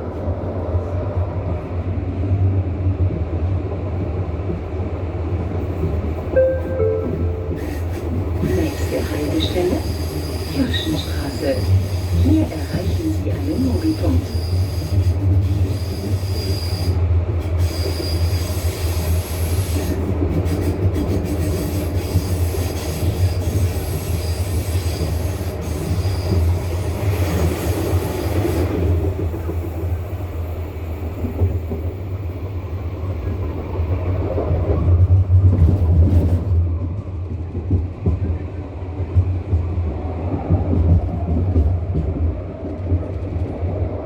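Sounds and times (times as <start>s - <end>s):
tram rumbling on track: 0.0s - 44.0s.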